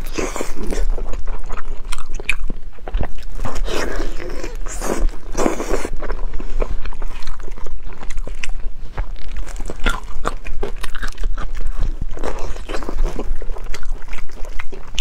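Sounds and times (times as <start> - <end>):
chewing and biting meat: 0.0 - 15.0.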